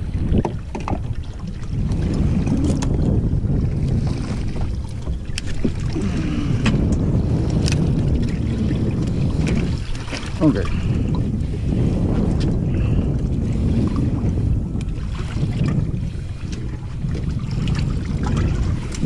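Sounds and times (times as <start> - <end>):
boat engine rumble: 0.0 - 19.0
wind buffeting microphone: 0.0 - 19.0.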